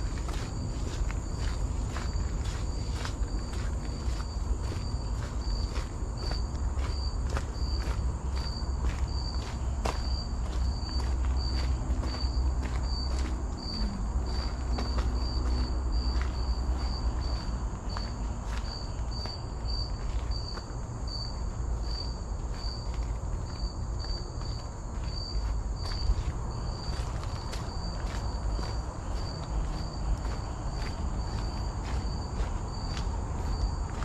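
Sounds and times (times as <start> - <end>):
faint footsteps: 0.0 - 34.0
insect chirping: 0.0 - 34.0.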